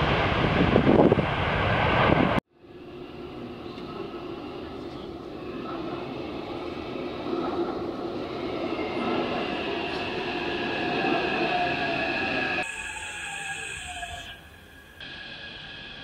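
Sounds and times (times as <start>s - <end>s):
high train whine: 0.0s - 16.0s
train rumble: 0.0s - 16.0s.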